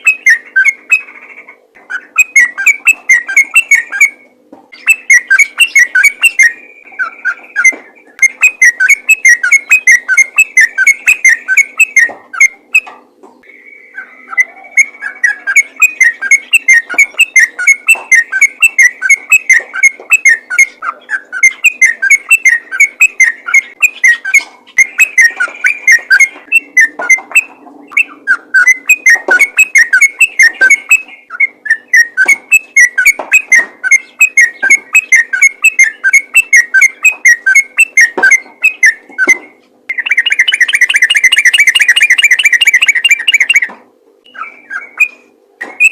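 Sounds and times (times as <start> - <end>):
bulbul chattering song: 0.0 - 45.9.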